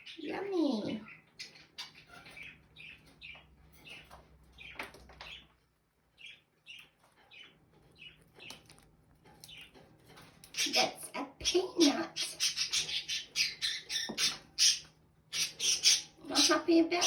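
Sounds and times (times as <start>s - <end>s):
parrots chirping softly: 0.0s - 17.0s.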